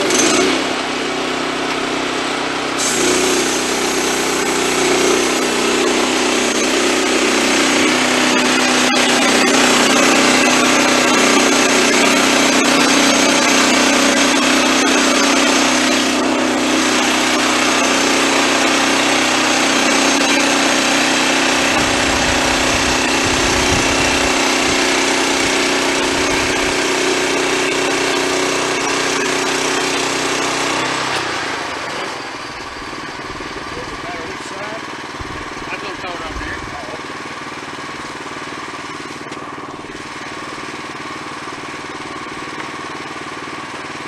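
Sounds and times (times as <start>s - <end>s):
band sawmill cutting log: 0.0s - 44.0s.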